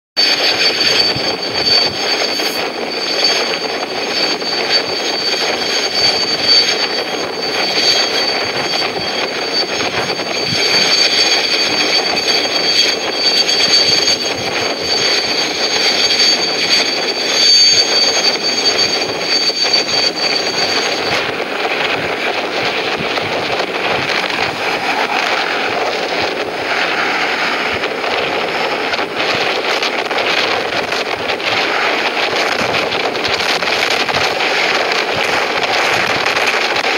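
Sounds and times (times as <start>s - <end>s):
helicopter rotor and engine noise: 0.2s - 36.9s
high turbine whine: 0.2s - 36.9s.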